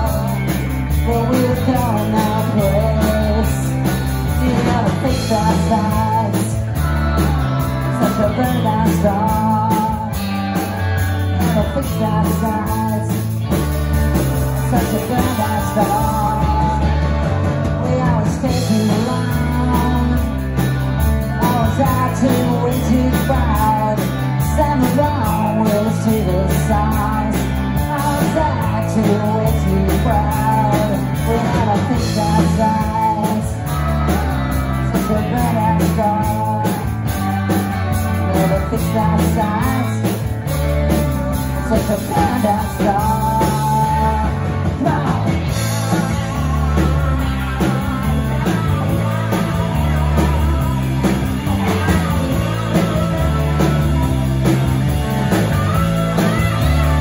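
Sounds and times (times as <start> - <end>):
electric guitars: 0.0 - 57.0
steady drum beat: 0.0 - 57.0.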